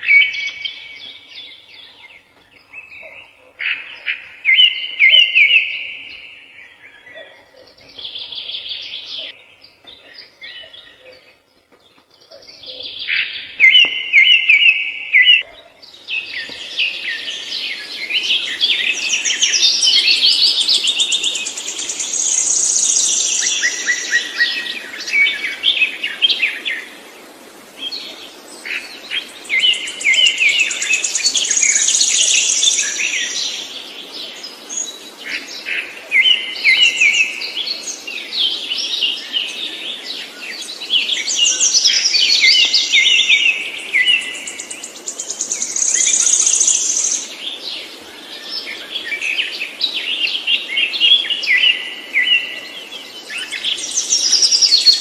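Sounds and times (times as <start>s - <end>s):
songbird singing chirps and trills: 0.0s - 55.0s.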